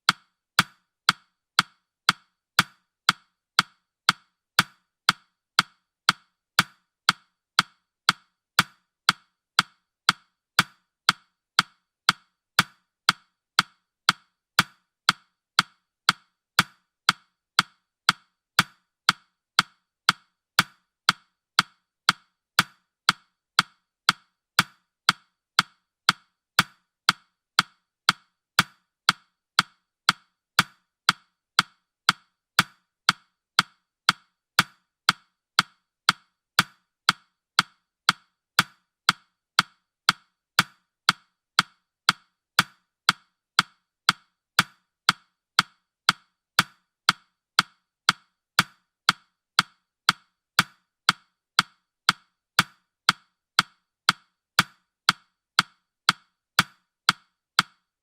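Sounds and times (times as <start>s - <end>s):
timer ticking clicks: 0.0s - 57.9s.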